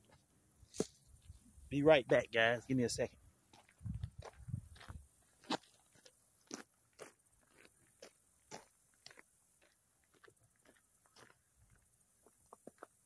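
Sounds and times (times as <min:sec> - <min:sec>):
footsteps crunching on dry ground: 0:00.0 - 0:13.0.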